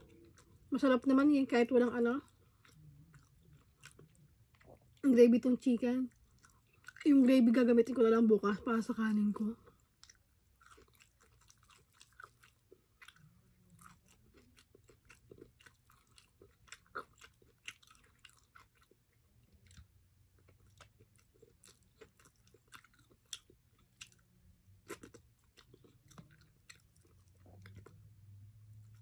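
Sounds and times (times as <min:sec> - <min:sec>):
chewing and crunching fried chicken: 0:00.0 - 0:29.0.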